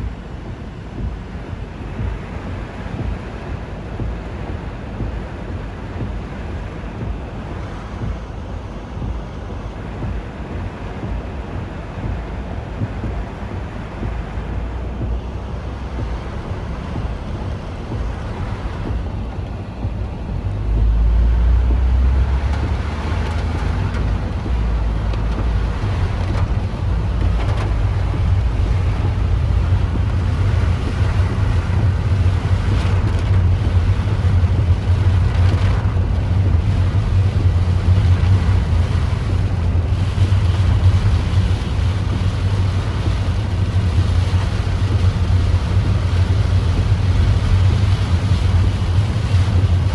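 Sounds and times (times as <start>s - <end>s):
strong wind buffeting microphone: 0.0s - 49.9s.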